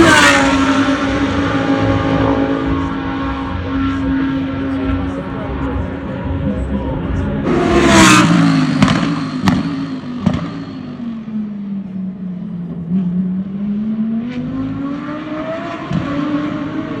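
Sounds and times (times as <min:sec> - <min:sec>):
race car engine passing: 0:00.0 - 0:17.0.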